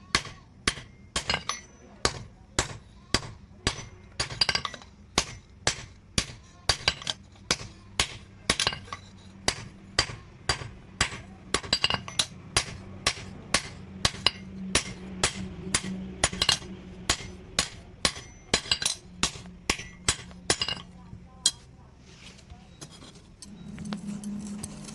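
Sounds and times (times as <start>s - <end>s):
hammer striking steel on anvil: 0.1s - 21.6s.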